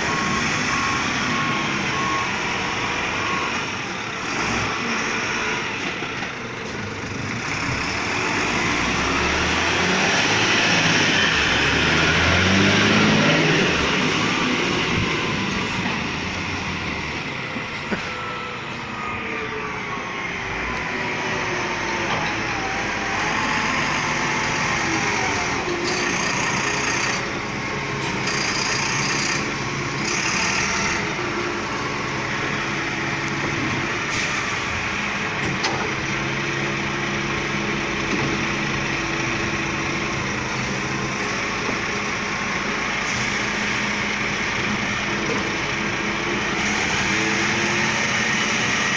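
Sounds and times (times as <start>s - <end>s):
diesel truck engine revving: 0.0s - 48.9s.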